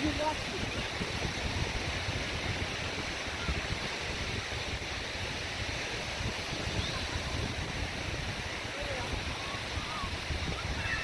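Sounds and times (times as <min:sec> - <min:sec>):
surf hissing: 0:00.0 - 0:11.0
wind buffeting microphone: 0:00.0 - 0:11.0.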